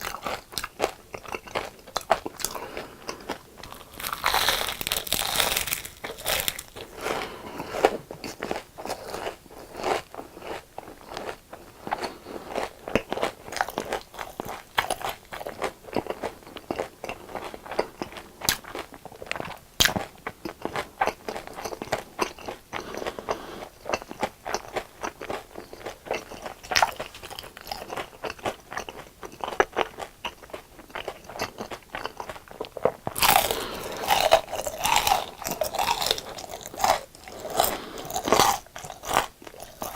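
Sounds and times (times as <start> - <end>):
chewing crunchy fried food: 0.0 - 39.9.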